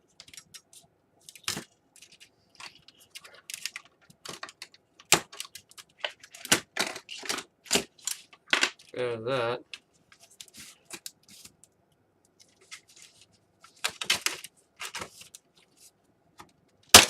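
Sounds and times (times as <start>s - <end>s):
tape and plastic parts crackling: 0.1s - 9.0s, 9.7s - 17.0s.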